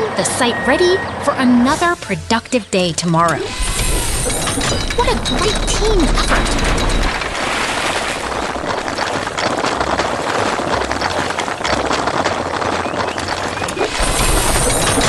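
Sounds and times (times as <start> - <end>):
construction vehicle engine rattling: 1.6 - 15.0.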